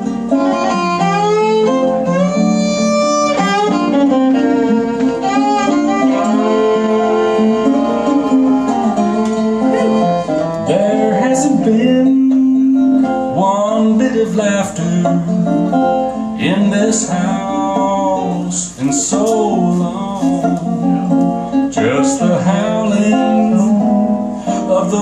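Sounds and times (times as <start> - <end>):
fiddle playing country melody: 0.0 - 25.0
resonator guitar picking: 0.0 - 25.0.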